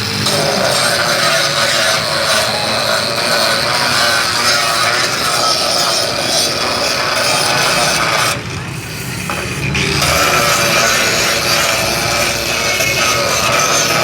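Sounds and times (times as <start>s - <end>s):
grinder scraping metal pan: 0.0s - 14.0s.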